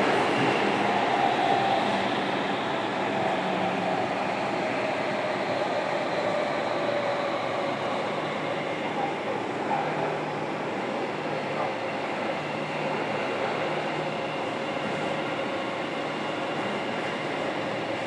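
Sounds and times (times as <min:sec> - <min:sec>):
train wheels rumbling in tunnel: 0:00.0 - 0:18.0.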